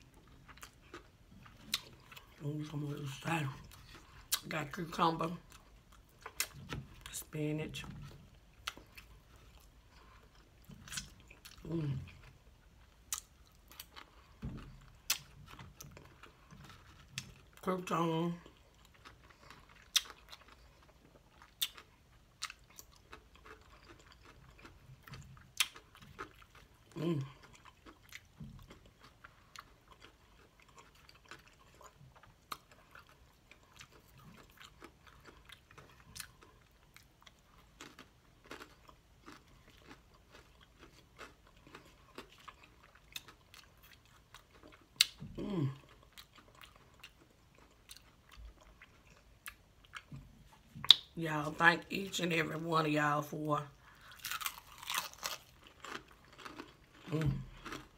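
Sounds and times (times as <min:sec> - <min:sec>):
person crunching salad: 0:00.1 - 0:07.2, 0:08.1 - 0:17.6, 0:18.4 - 0:50.1, 0:53.7 - 0:57.9.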